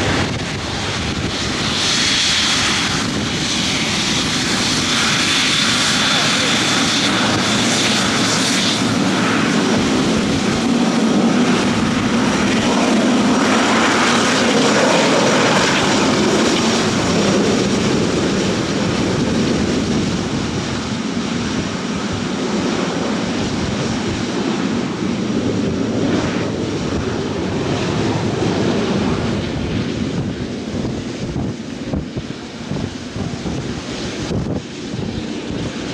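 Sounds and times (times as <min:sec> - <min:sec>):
airliner engines passing: 0:00.0 - 0:35.9.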